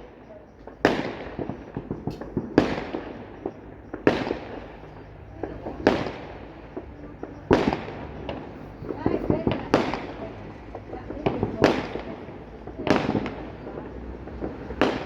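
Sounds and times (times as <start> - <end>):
firework pops and crackles: 0.0 - 15.0
fireworks bangs with echo: 0.0 - 15.0.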